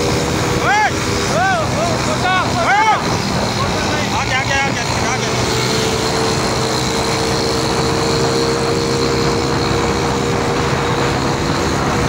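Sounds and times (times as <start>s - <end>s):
vehicle engine droning: 0.0s - 12.0s
wind and road noise: 0.0s - 12.0s.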